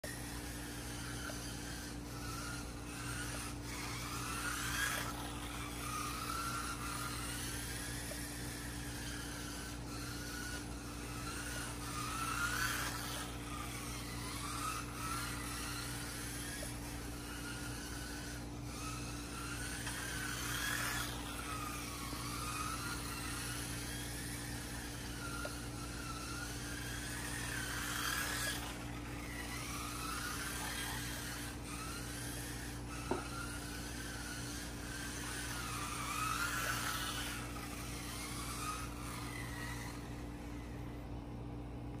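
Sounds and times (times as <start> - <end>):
electric motor whining: 0.0 - 41.2
steady low hum: 0.0 - 42.0.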